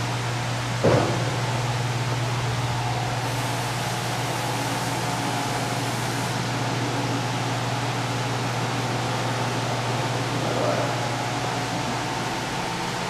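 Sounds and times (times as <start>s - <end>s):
lathe humming and whirring: 0.0s - 13.0s.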